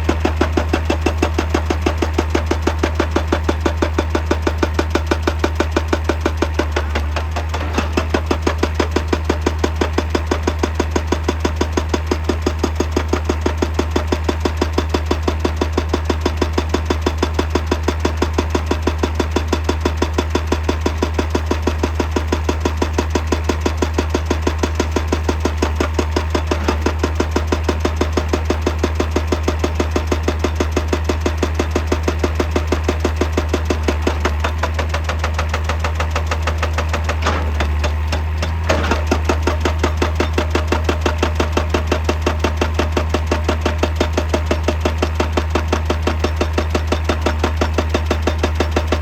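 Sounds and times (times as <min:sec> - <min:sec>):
hydraulic breaker hammering rock: 0:00.0 - 0:18.3, 0:19.2 - 0:49.0
diesel engine running: 0:00.0 - 0:49.0.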